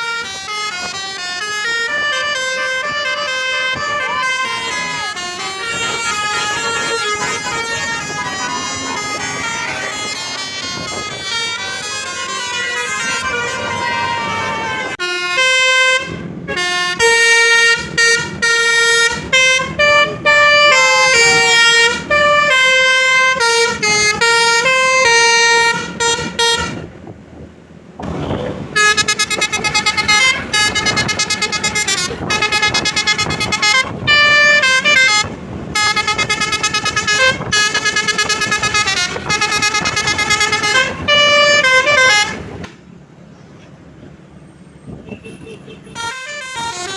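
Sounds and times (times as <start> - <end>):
bus horn playing a tune: 0.0 - 27.0, 28.1 - 42.8, 44.8 - 46.9.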